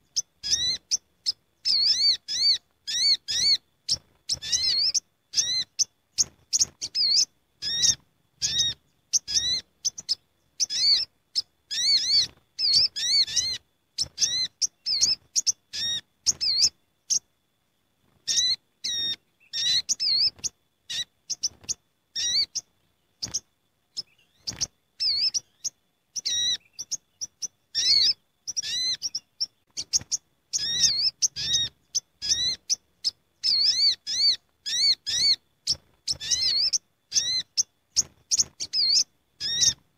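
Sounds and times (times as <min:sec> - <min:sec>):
birds chirping and trilling: 0:00.0 - 0:17.3, 0:18.0 - 0:39.9.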